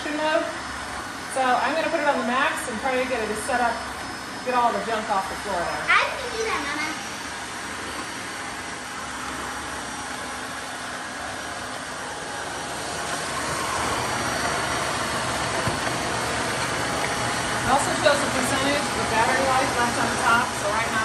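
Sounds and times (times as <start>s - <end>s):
vacuum mop motor and suction: 0.0s - 21.0s.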